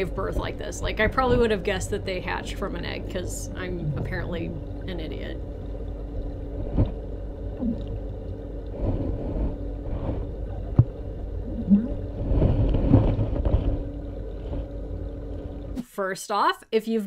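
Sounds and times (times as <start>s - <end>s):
water gurgles: 0.0s - 15.8s
aquarium hum: 0.0s - 16.5s.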